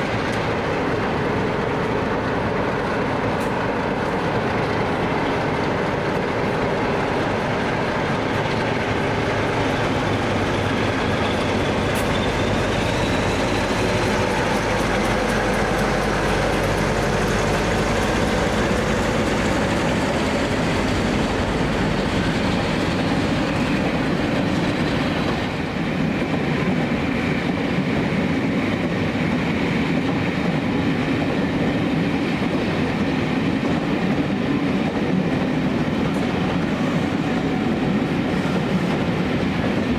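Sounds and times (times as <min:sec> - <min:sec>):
train wheels rolling on track: 0:00.0 - 0:39.9.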